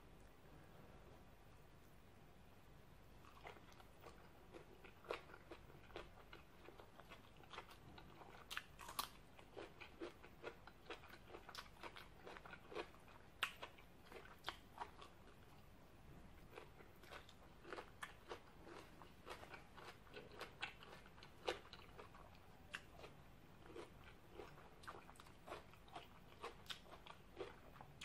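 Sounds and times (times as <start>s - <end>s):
person chewing food: 3.2s - 15.7s, 16.3s - 28.0s.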